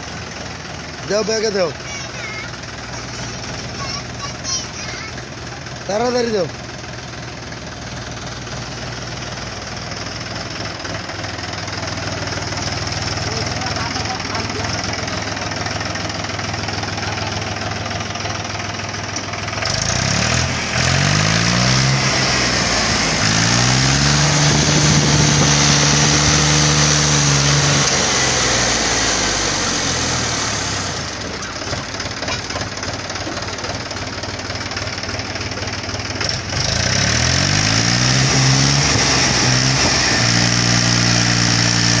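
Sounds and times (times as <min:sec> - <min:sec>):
tractor diesel engine idling and revving: 0:00.0 - 0:42.0.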